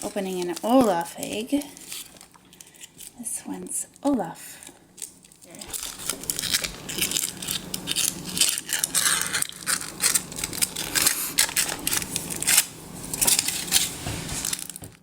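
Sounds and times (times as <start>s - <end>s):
foil wrapper crinkling and tearing: 0.0s - 3.2s, 4.6s - 15.0s.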